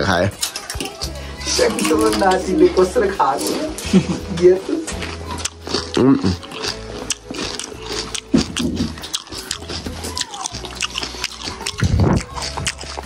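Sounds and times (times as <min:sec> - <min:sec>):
crunchy food being chewed: 0:00.4 - 0:04.1, 0:04.9 - 0:13.0.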